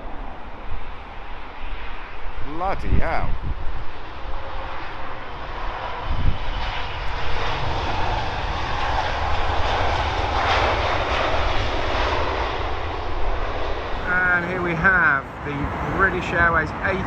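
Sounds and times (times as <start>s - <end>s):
jet engine roar on landing: 0.0s - 17.0s.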